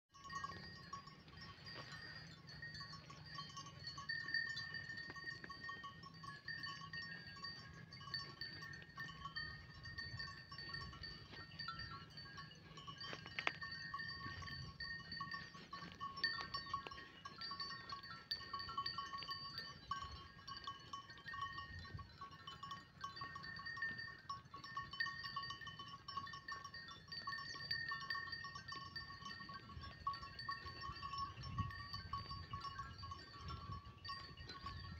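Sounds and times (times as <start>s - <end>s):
high-pitched ringing tone: 0.2s - 34.9s.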